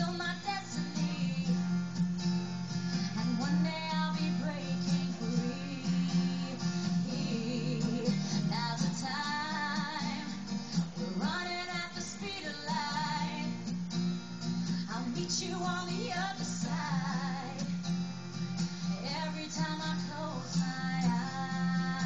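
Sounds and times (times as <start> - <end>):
woman singing: 0.0 - 2.0, 3.0 - 13.8, 14.7 - 18.0, 18.8 - 22.0
acoustic guitar: 0.0 - 22.0.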